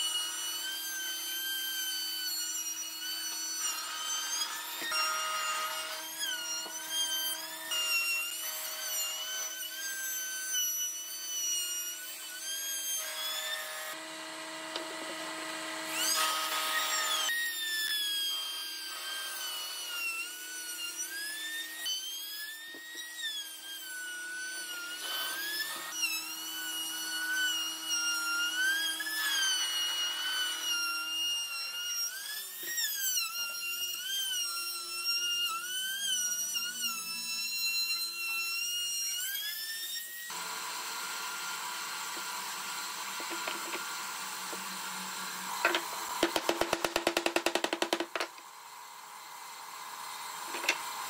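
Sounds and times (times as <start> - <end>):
power tool motor whine: 0.0 - 51.0.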